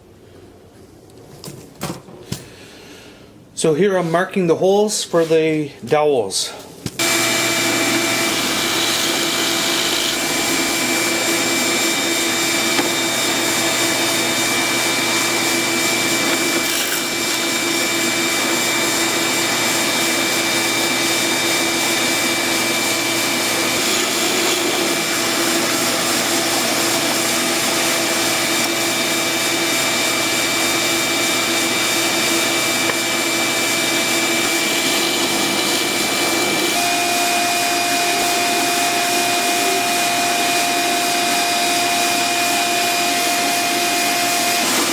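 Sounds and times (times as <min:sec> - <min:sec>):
power tool whirring: 0:07.0 - 0:44.9.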